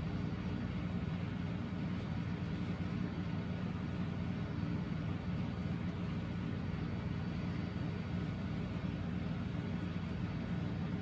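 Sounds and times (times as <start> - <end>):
low fan hum: 0.0 - 11.0.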